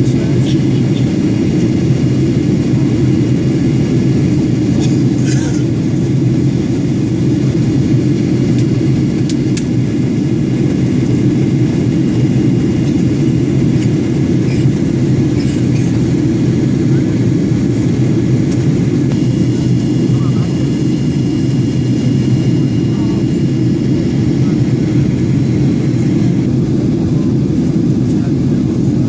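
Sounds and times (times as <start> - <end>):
airplane cabin drone: 0.0 - 29.0.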